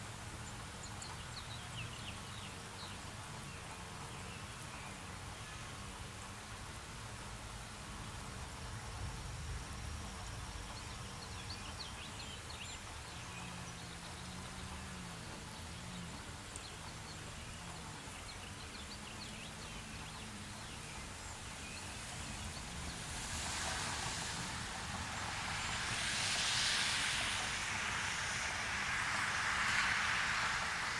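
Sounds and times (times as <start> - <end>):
broad hiss: 0.0 - 30.9.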